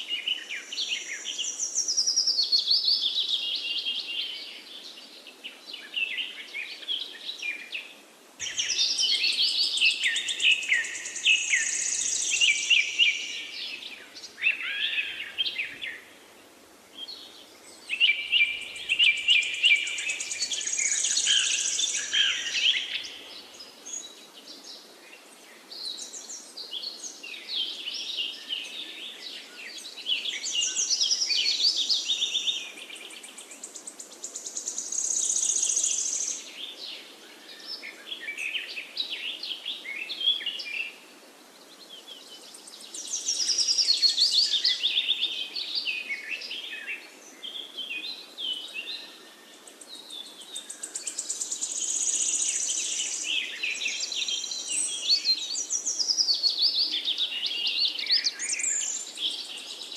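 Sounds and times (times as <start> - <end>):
faint background hiss: 0.0 - 59.9
songbirds chirping and trilling: 0.0 - 59.9.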